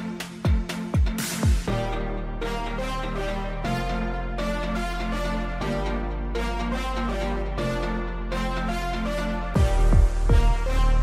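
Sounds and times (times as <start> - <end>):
background music with low bass: 0.0 - 11.0.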